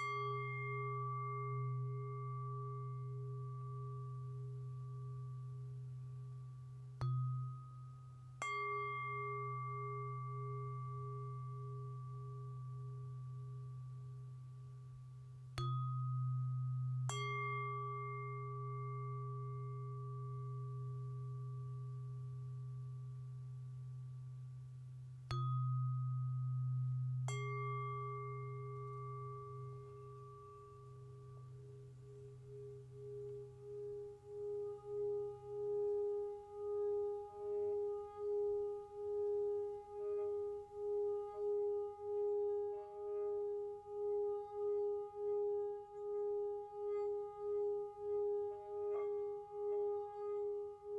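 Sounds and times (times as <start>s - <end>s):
low steady tone: 0.0s - 50.9s
singing bowl ringing: 0.0s - 50.9s
tuning forks ringing: 0.0s - 50.9s.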